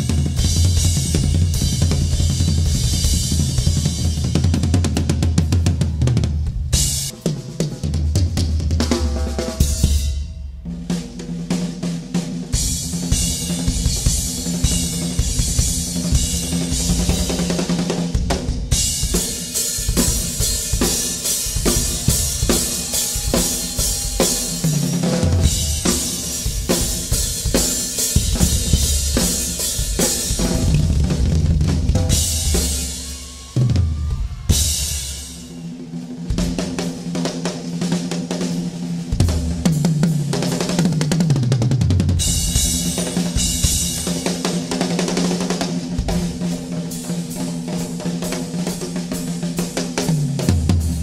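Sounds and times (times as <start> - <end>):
rock drum kits played fast: 0.0 - 51.0.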